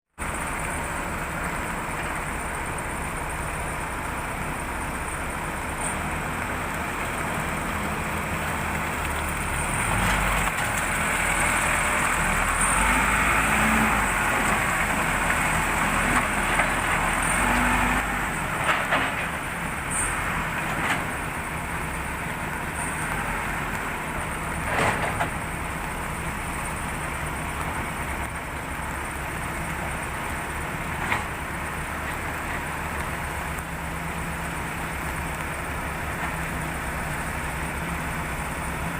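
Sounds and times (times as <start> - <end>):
diesel engine running: 0.2 - 38.9.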